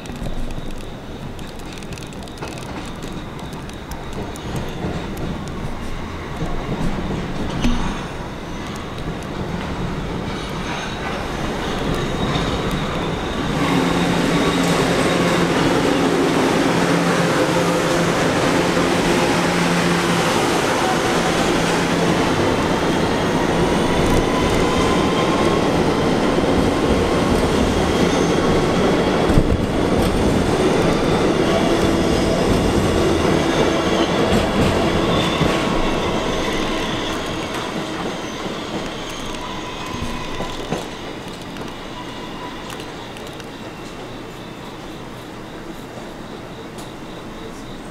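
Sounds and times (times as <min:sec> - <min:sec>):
steel wheels squealing on rails: 0:00.0 - 0:47.9
subway train rumbling past: 0:00.0 - 0:47.9.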